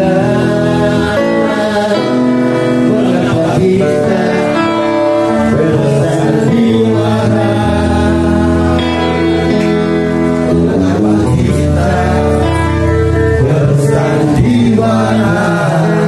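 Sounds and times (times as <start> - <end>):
live band through pa: 0.0 - 16.0
person singing: 0.0 - 16.0.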